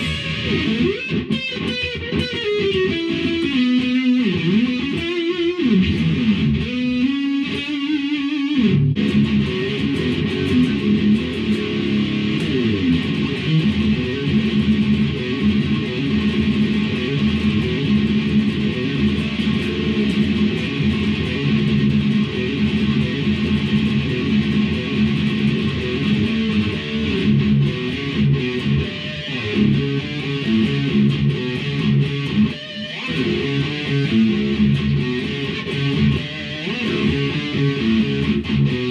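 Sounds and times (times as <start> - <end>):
electric guitar riffing: 0.0 - 38.9.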